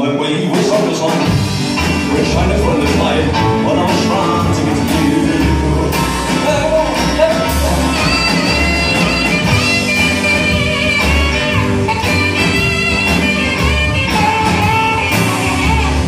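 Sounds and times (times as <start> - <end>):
high held melody line: 0.4 - 16.0
double bass notes: 0.6 - 16.0
electric guitar: 0.6 - 16.0.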